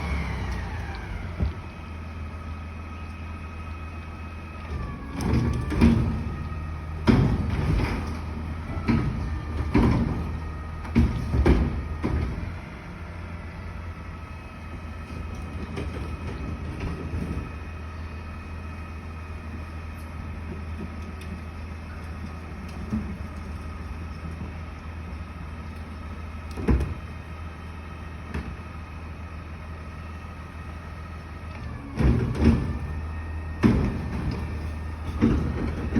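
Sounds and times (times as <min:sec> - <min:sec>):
garbage truck drone and whine: 0:00.0 - 0:35.9.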